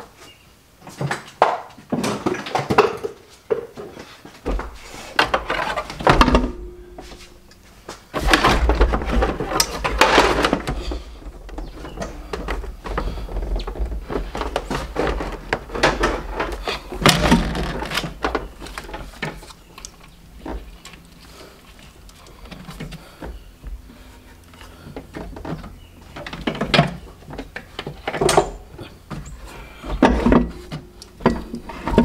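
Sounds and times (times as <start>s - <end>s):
metal parts clunking and scraping: 3.8s - 23.4s, 24.1s - 32.0s.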